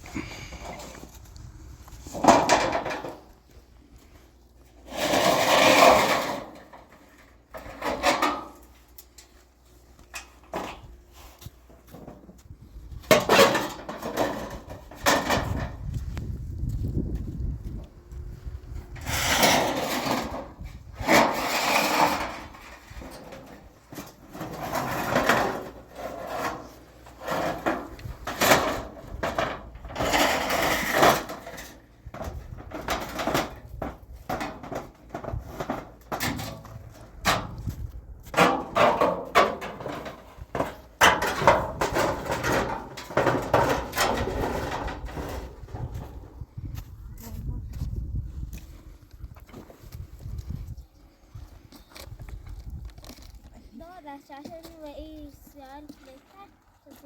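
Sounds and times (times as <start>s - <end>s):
scraping and rustling: 0.1s - 57.0s.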